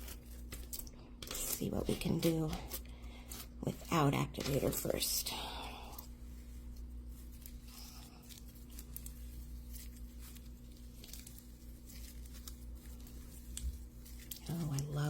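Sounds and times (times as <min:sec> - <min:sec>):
slime squishing: 0:00.0 - 0:15.0.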